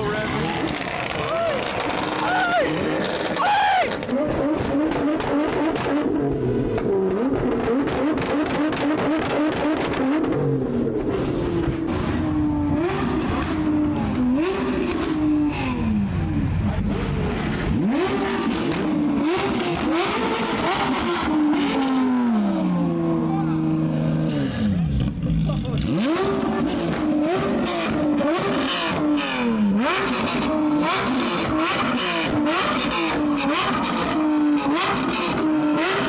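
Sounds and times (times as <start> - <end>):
car engines revving: 0.0 - 36.0
exhaust cracks: 0.0 - 36.0.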